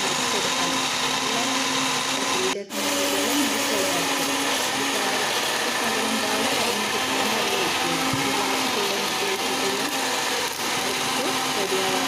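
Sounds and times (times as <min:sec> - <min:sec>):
electric blender grinding: 0:00.0 - 0:12.0.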